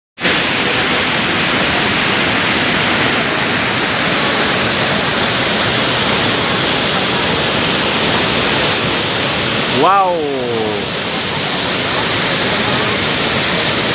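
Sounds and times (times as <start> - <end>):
fast-flowing stream: 0.2 - 13.9
waterfall rushing: 0.2 - 13.9.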